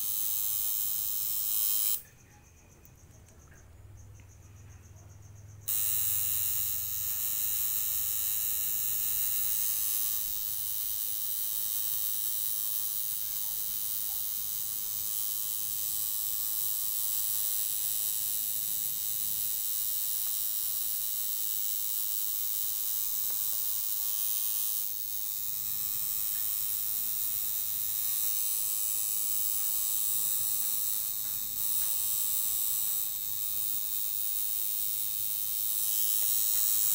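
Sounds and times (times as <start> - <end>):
tattoo machine buzzing: 0.0 - 2.1, 5.6 - 36.9.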